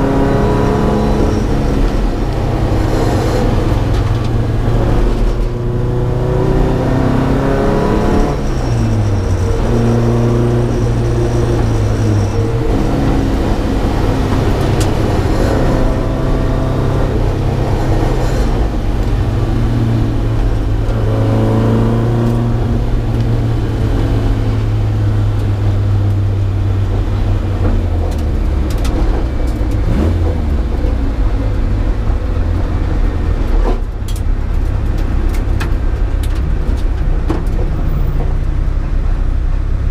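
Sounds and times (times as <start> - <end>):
rally car engine accelerating: 0.0 - 39.9.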